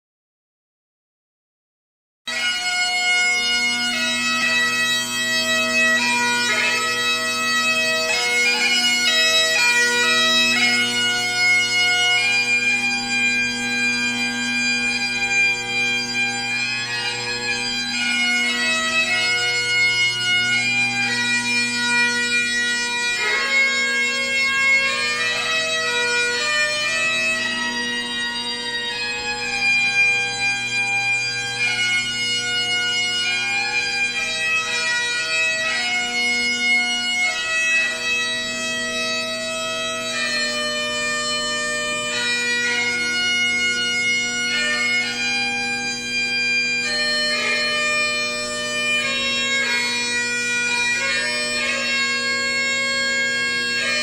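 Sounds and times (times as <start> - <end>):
bagpipe drone: 2.3 - 54.0
bagpipe melody: 2.3 - 54.0.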